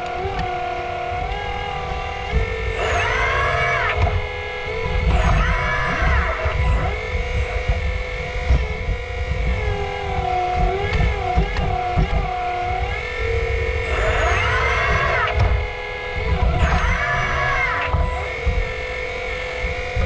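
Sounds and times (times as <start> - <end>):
hydraulic pump whine: 0.0 - 20.0.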